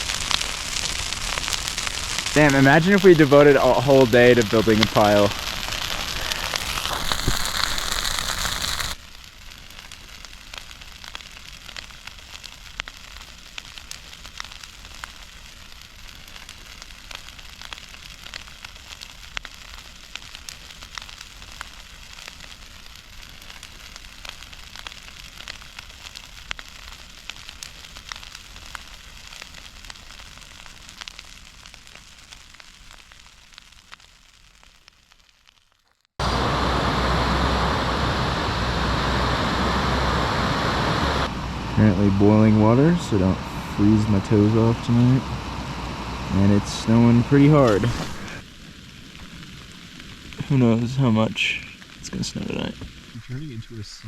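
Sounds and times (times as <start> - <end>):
campfire crackling and hissing: 0.0 - 54.0.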